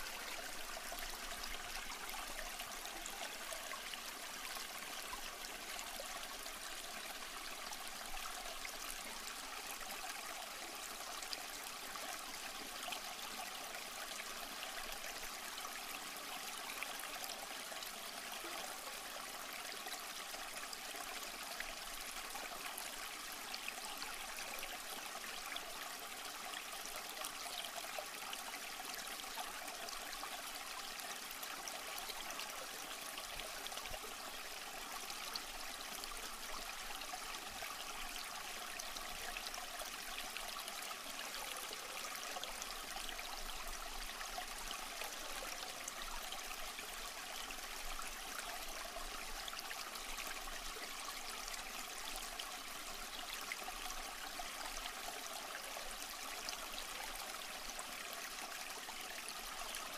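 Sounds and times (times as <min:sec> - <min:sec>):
small stream flowing: 0:00.0 - 0:59.9.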